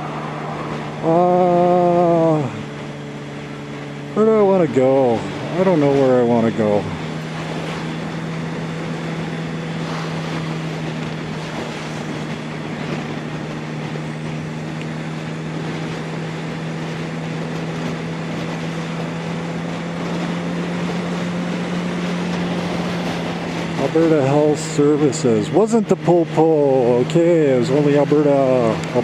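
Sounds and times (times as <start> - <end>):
motorcycle engine cruising: 0.0 - 29.0
wind rushing over microphone: 0.0 - 29.0.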